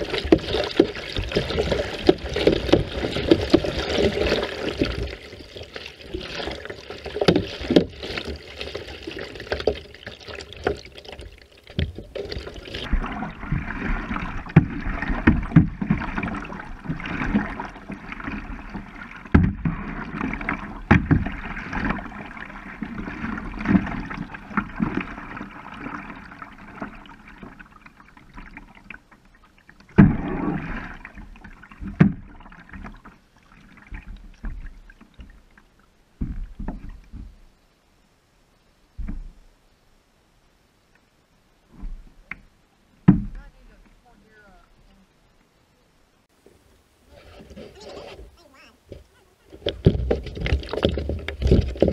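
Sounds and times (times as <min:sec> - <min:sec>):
paddle blades splashing: 0:00.0 - 0:37.8, 0:46.3 - 0:51.9
water sloshing: 0:00.0 - 0:37.8, 0:46.3 - 0:51.9.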